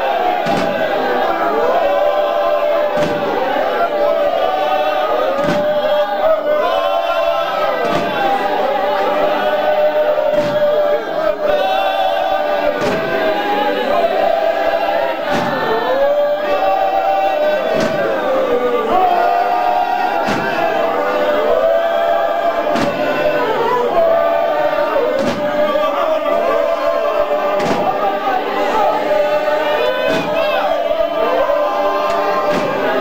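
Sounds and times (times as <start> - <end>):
choir singing in harmony: 0.0 - 33.0.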